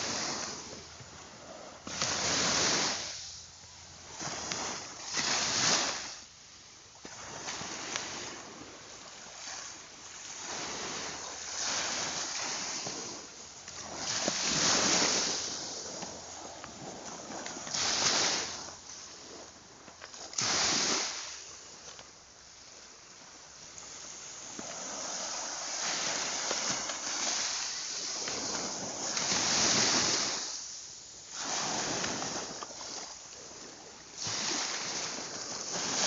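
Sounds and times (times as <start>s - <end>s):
ocean waves washing in: 0.0s - 21.9s, 23.2s - 36.0s.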